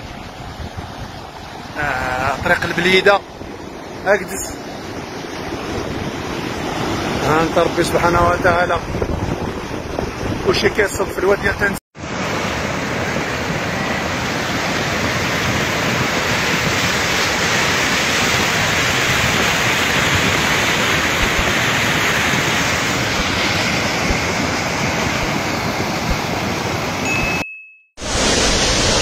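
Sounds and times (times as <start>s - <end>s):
floodwater rushing: 0.0s - 11.0s, 12.0s - 27.4s.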